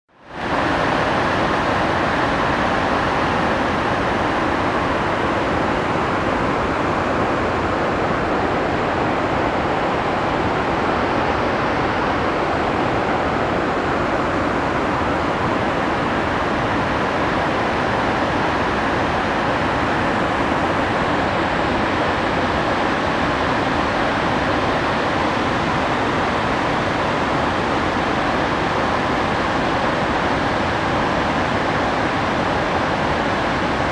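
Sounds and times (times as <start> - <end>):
water rushing down a spillway: 0.1 - 33.9.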